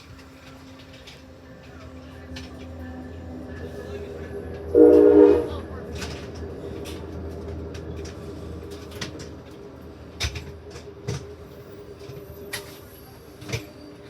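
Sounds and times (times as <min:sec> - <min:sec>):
train clanks and knocks: 0:00.0 - 0:14.0
train hum: 0:00.0 - 0:14.0.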